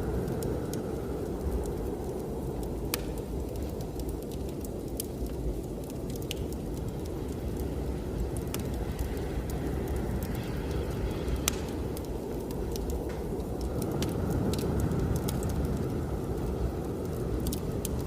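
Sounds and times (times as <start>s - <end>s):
blizzard wind rushing: 0.0s - 18.0s
wood fire crackling and popping: 0.0s - 18.0s.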